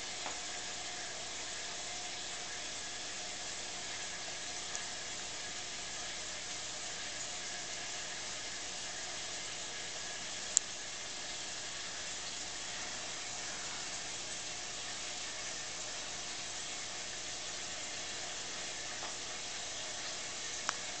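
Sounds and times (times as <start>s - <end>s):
aquarium water and bubbles hissing: 0.0s - 21.0s.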